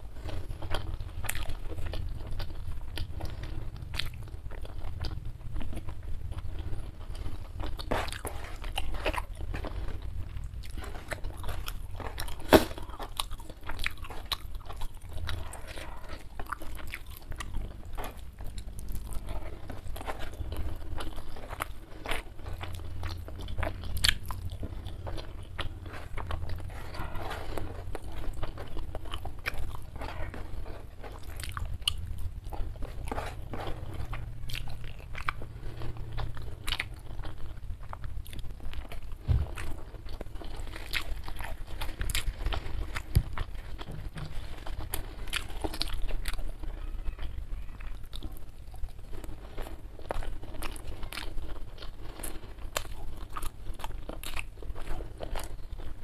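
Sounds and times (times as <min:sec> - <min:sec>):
chewing with crunching clicks: 0:00.0 - 0:56.0.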